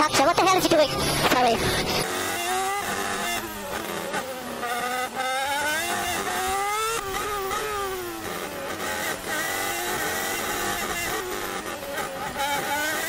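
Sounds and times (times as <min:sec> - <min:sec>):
racing car engine accelerating: 0:00.6 - 0:13.0.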